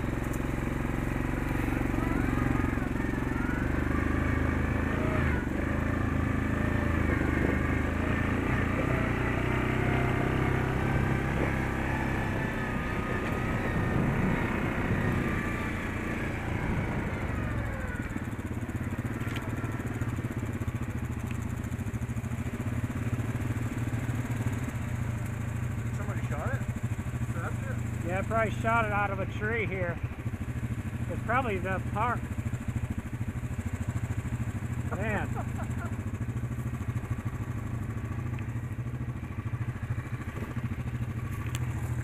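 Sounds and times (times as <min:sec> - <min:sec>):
quad engine running: 0:00.0 - 0:42.0.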